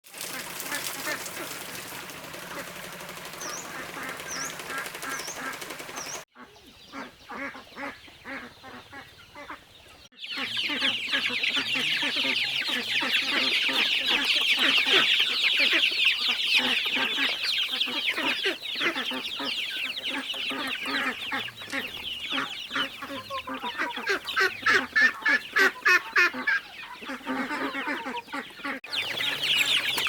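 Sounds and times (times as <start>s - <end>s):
chickens clucking: 0.1s - 30.0s
ducks quacking: 0.1s - 30.0s.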